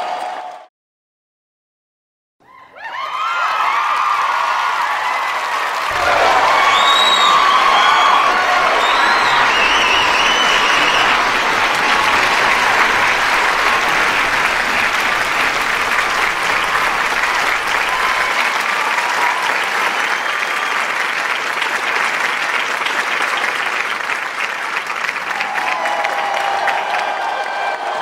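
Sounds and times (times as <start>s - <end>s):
audience cheering: 2.4s - 28.0s
audience applauding: 2.9s - 28.0s.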